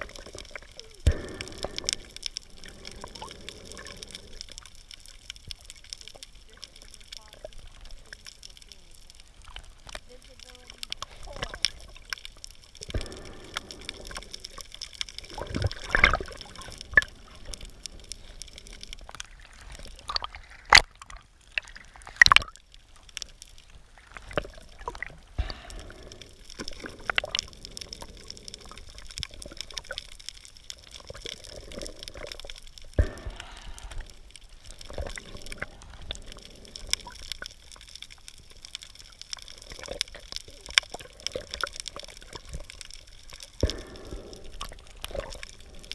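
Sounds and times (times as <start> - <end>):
underwater bubbling and sloshing: 0.0 - 45.9.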